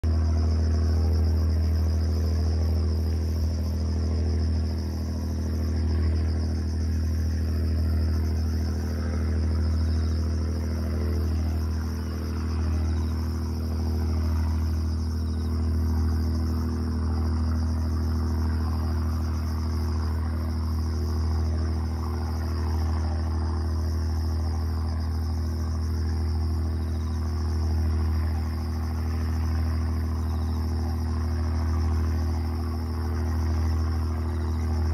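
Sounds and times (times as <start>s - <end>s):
boat engine droning: 0.0s - 34.9s
insects chirping: 0.0s - 34.9s.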